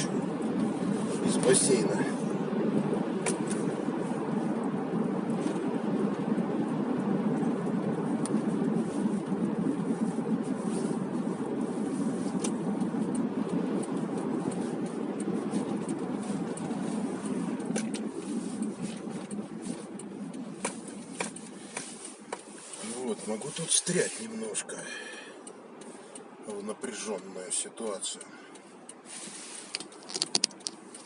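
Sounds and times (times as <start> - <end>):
car road and engine rumble: 0.0 - 31.0
faint ticks: 5.3 - 31.0.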